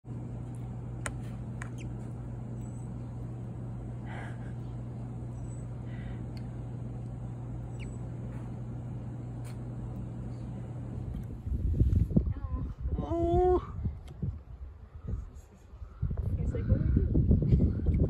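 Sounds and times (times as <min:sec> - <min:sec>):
low machine hum: 0:00.0 - 0:15.2.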